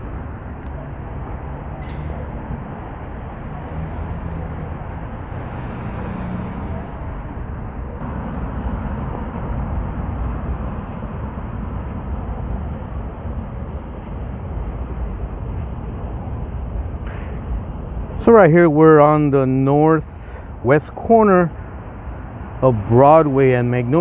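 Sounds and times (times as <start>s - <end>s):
low rumble of street traffic: 0.0s - 24.0s.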